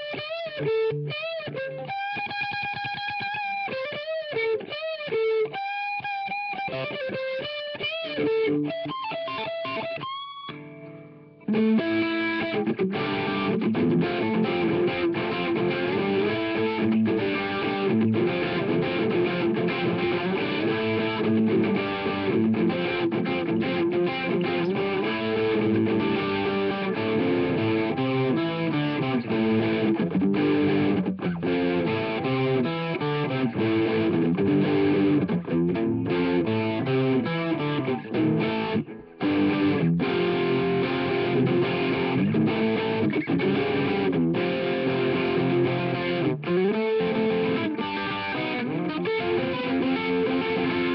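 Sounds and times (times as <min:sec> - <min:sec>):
electric guitar riffs: 0:00.0 - 0:50.9.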